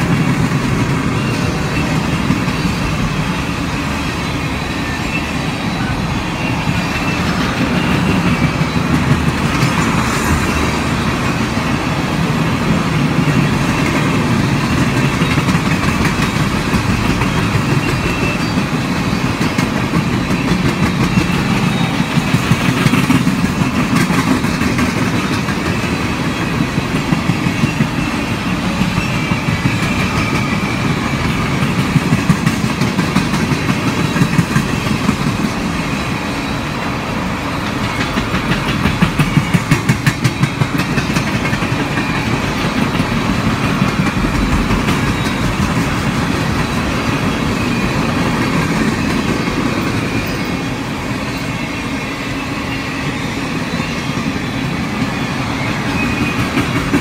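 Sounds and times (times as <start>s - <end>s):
train cars rolling by: 0.0s - 57.0s
wheels clicking over rail joints: 5.8s - 36.3s, 37.3s - 50.8s, 54.6s - 57.0s.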